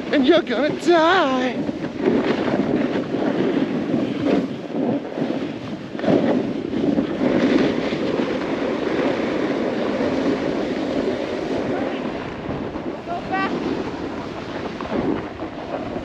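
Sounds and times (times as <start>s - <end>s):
snowboard scraping over snow: 0.0s - 16.0s
wind on microphone: 0.0s - 16.0s.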